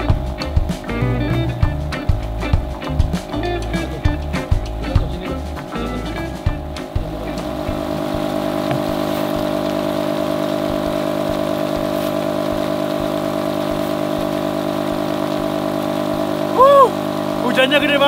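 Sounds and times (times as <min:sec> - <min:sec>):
rain hiss: 0:00.0 - 0:18.0
small motor humming: 0:00.0 - 0:18.0.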